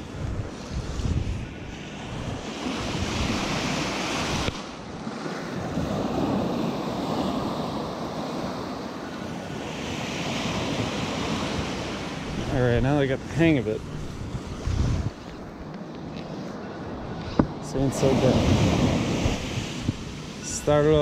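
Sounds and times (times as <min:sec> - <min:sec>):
surf breaking on beach: 0:00.0 - 0:15.2, 0:16.5 - 0:21.0.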